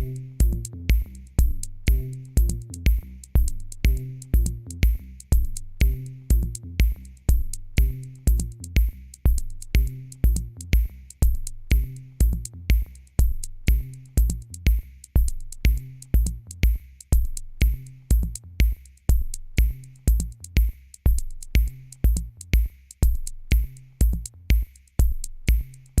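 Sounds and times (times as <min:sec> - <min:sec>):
electronic music with drum-machine beat: 0:00.0 - 0:26.0.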